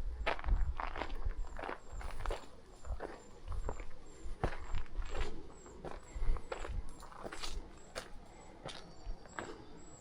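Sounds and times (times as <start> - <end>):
footsteps on a trail: 0.0 - 9.8.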